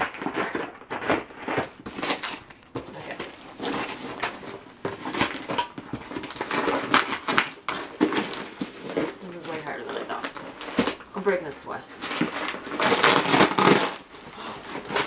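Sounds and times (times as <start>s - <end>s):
paper and tape tearing: 0.0s - 11.3s, 12.0s - 15.0s.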